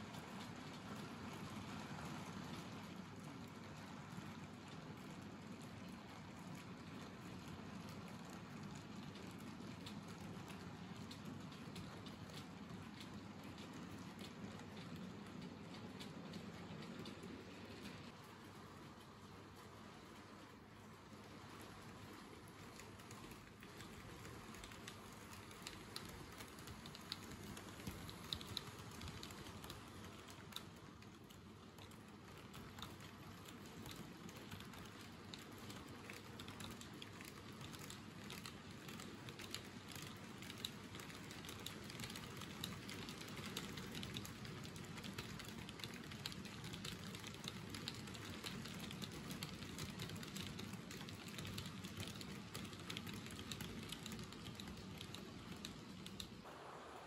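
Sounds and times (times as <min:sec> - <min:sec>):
model train wheels clicking: 0:00.0 - 0:56.5.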